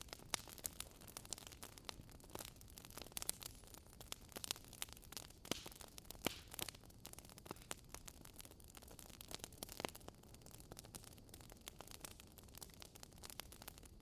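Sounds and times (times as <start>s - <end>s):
faint fire hiss: 0.0s - 14.0s
logs crackling in fireplace: 0.0s - 14.0s.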